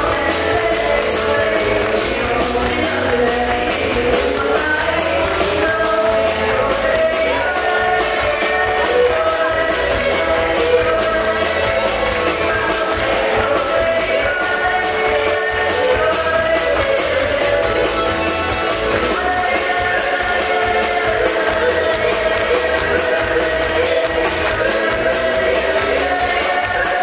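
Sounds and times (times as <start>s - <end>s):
drum kit beat: 0.0s - 27.0s
electric bass: 0.0s - 27.0s
woman singing: 0.0s - 27.0s.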